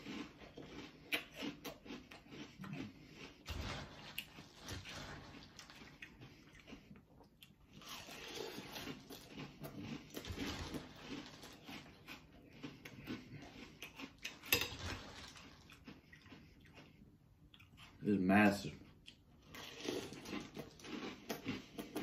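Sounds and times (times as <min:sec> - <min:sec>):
person chewing crunchy cereal: 0:00.0 - 0:22.0.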